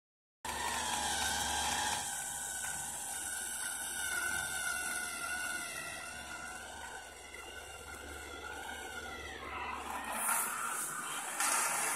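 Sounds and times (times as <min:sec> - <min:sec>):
small gear motors whirring: 0:00.5 - 0:11.9.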